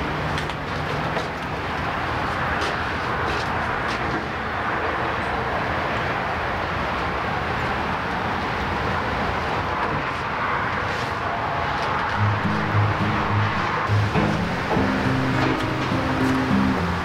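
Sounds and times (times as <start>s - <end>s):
outdoor rushing hiss and rumble: 0.0s - 17.0s.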